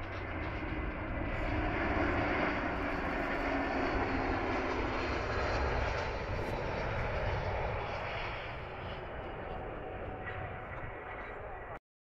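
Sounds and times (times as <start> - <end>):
jet engines roaring: 0.0 - 11.8.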